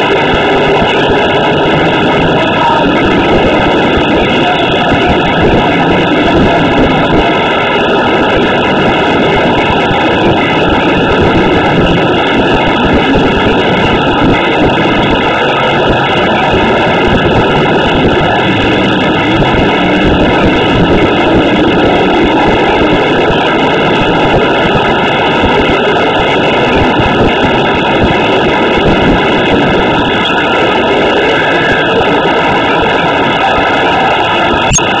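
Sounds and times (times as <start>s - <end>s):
loud truck engine running hard: 0.0s - 35.0s.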